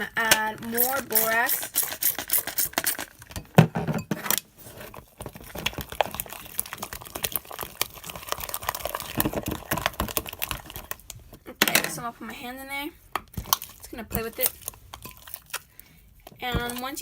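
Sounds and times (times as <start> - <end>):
spoon stirring sticky slime: 0.1 - 3.6, 4.2 - 17.0.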